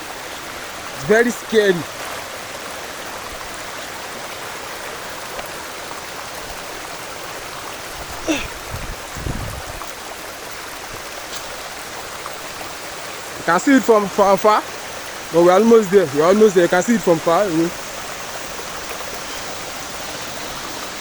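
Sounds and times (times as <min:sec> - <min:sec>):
water flowing over rock: 0:00.0 - 0:21.0.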